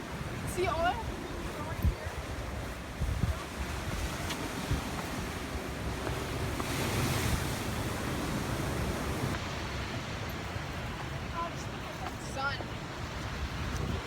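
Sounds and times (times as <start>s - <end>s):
ocean waves breaking: 0.0s - 14.0s
wind rumbling on microphone: 0.0s - 14.0s.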